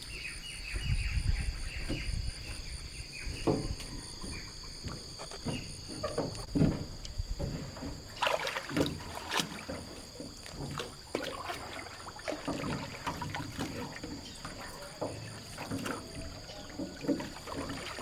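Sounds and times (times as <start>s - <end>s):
insects chirring: 0.0s - 18.0s
water splashing and sloshing: 0.7s - 18.0s.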